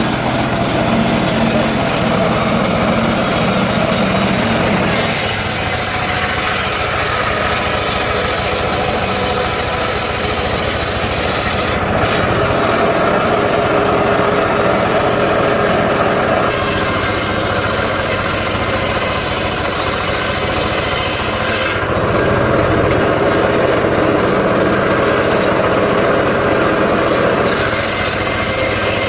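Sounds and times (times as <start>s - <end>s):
small engine running a saw: 0.0s - 29.0s.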